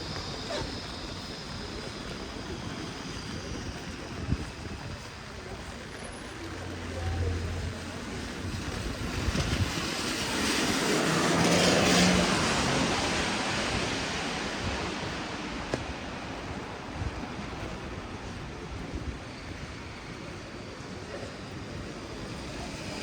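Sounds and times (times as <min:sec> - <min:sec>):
heavy rain on street: 0:00.0 - 0:23.0
vehicle passing on wet street: 0:00.0 - 0:23.0.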